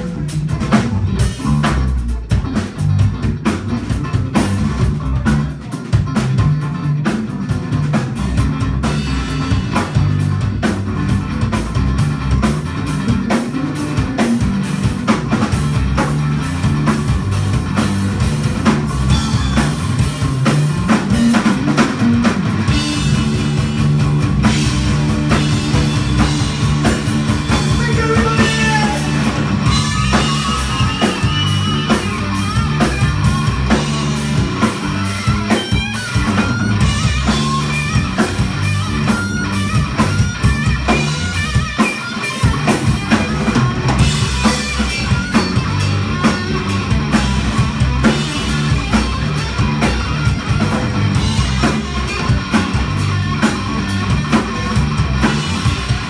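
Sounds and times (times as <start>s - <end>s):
drum kit: 0.0s - 56.0s
electric bass: 0.0s - 56.0s
electric guitar lead: 0.0s - 56.0s.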